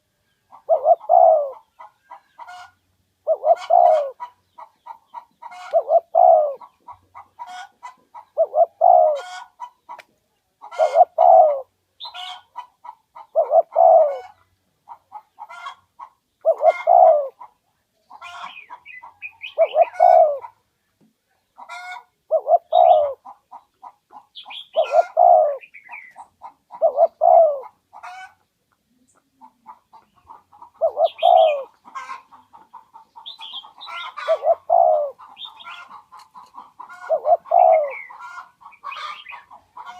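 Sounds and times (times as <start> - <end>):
dove cooing: 0.0 - 9.8, 10.6 - 17.6, 18.2 - 20.6, 21.6 - 39.9.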